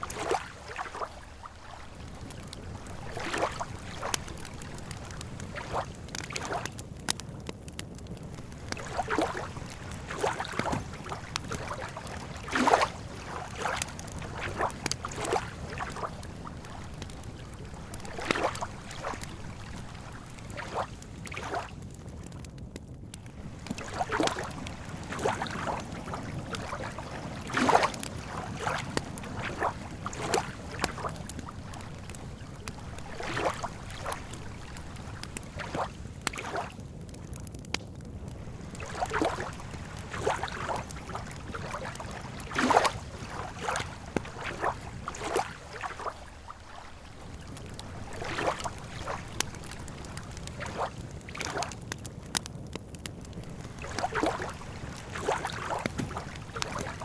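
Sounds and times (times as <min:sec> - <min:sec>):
small waves lapping: 0:00.0 - 0:07.2, 0:08.2 - 0:22.0, 0:23.1 - 0:37.2, 0:38.2 - 0:52.4, 0:53.2 - 0:57.0
campfire crackling: 0:00.0 - 0:57.0.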